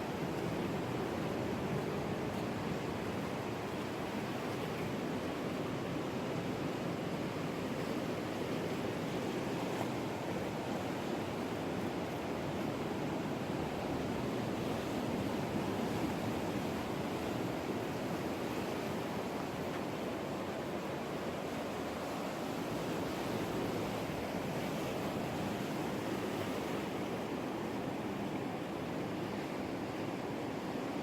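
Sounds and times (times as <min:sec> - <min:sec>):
ocean surf washing on shore: 0:00.0 - 0:31.0.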